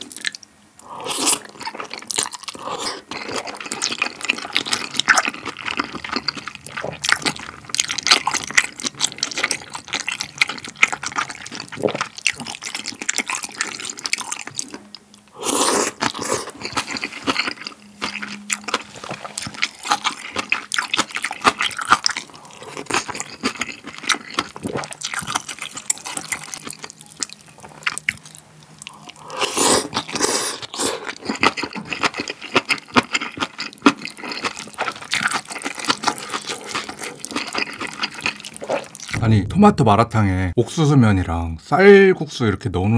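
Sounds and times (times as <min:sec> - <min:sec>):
noodles slurped: 0:00.0 - 0:14.8, 0:15.4 - 0:39.2.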